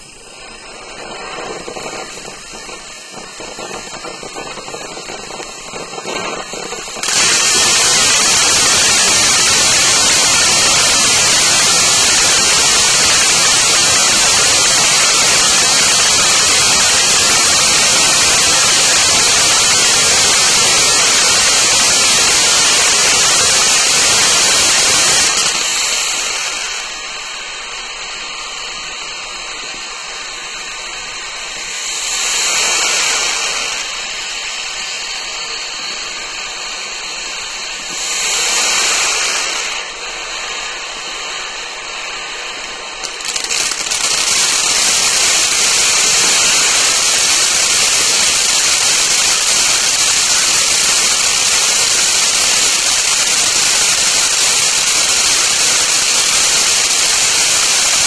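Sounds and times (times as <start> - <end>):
firework fountain hissing: 0.0 - 58.0.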